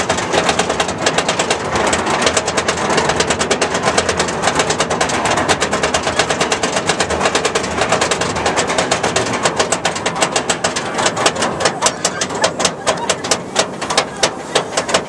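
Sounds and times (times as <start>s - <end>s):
low chain rumble: 0.0s - 15.0s
roller coaster lift clicking: 0.0s - 15.0s.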